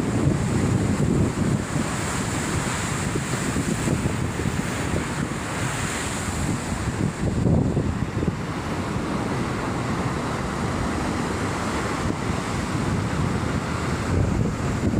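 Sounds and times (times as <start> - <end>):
sea surf crashing: 0.0 - 14.9
wind buffeting microphone: 0.0 - 14.9.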